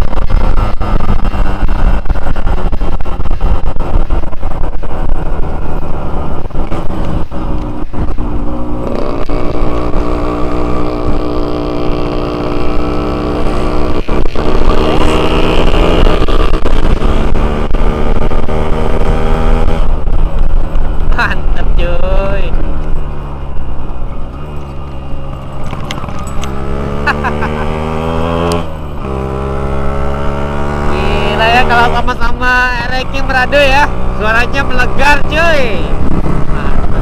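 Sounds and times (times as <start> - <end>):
motorbike engine accelerating: 0.0 - 37.0
wind rumble on microphone: 0.0 - 37.0.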